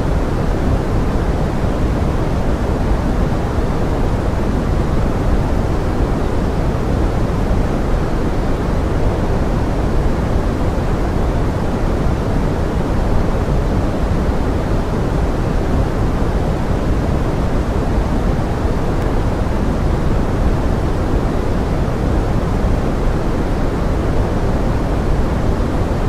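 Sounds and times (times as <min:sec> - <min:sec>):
pink noise rushing hiss: 0:00.0 - 0:26.0.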